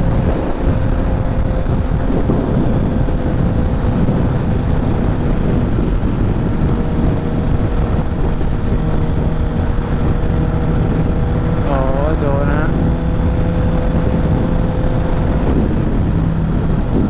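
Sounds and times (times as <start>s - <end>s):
motorcycle engine running: 0.0s - 17.0s
strong wind buffeting microphone: 0.0s - 17.0s.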